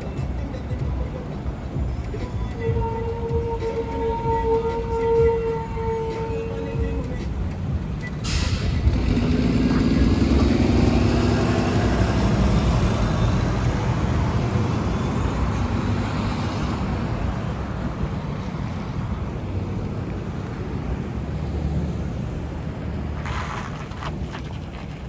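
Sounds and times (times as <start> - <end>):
bus driving past: 0.0 - 25.0.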